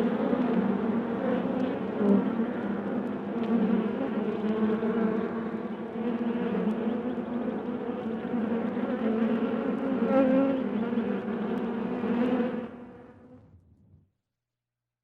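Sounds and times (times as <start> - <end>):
honeybees buzzing: 0.0 - 13.4.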